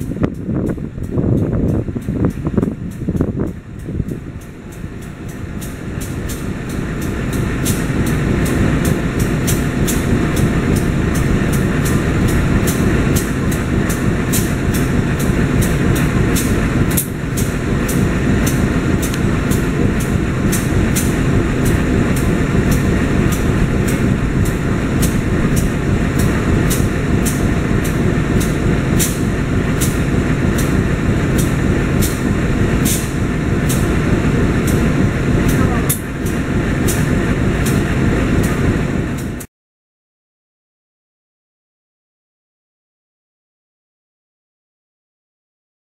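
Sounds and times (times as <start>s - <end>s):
train carriages rumbling on track: 0.0s - 39.5s
fast regular wheel clicking: 0.2s - 39.5s.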